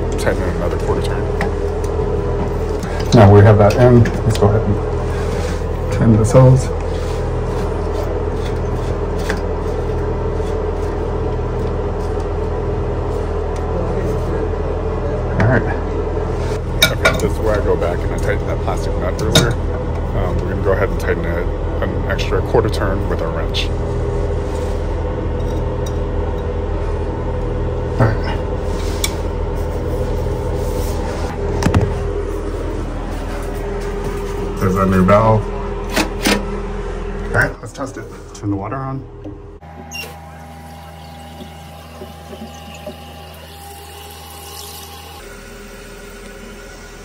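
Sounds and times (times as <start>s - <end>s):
mechanical hum: 0.0s - 47.0s.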